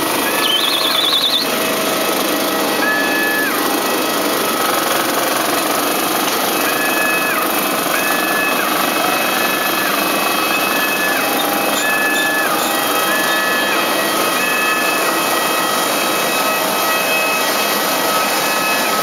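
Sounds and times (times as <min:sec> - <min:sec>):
mechanical running noise: 0:00.0 - 0:19.0
two-tone warning beeper: 0:00.0 - 0:19.0.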